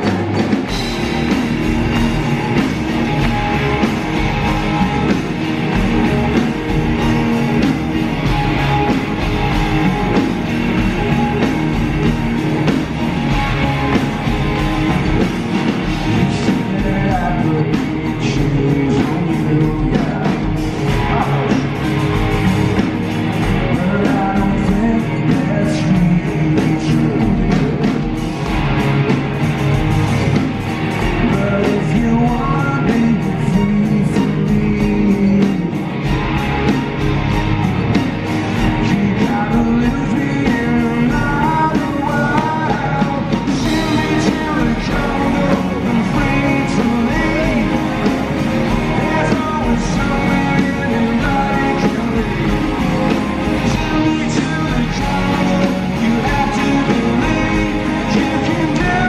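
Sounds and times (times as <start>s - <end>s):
lead vocal singing: 0.0s - 22.0s, 23.4s - 28.3s, 31.0s - 36.0s, 38.5s - 59.0s
live rock band playing: 0.0s - 59.0s.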